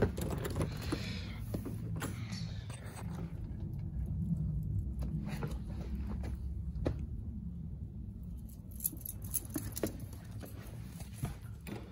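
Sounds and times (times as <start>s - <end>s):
low steady rumble: 0.0s - 11.9s.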